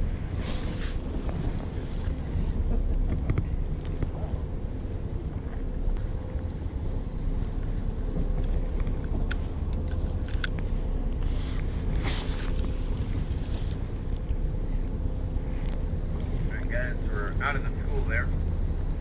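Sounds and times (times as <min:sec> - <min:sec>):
boat engine rumbling: 0:00.0 - 0:19.0
wind on microphone: 0:00.0 - 0:19.0.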